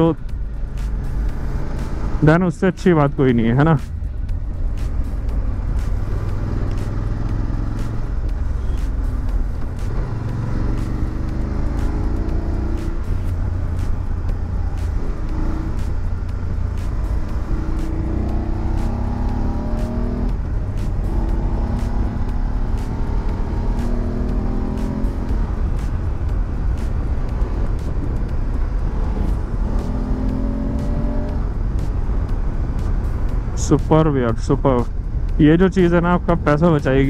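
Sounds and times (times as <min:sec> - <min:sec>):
low wind rumble: 0:00.0 - 0:37.0
motorcycle engine running: 0:00.0 - 0:37.0.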